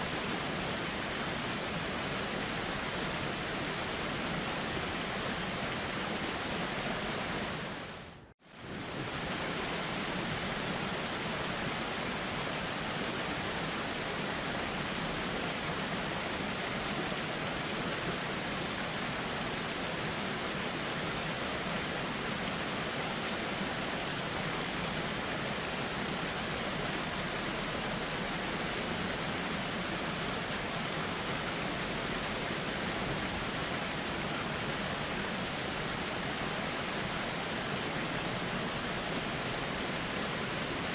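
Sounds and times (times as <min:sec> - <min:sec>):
river flowing: 0:00.0 - 0:40.9
wind: 0:00.0 - 0:40.9.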